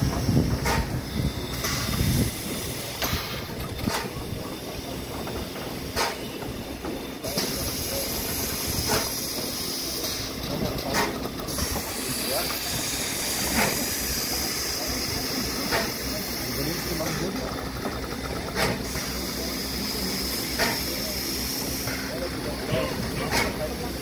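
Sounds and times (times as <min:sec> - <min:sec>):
steam hissing from locomotive: 0:00.0 - 0:24.0.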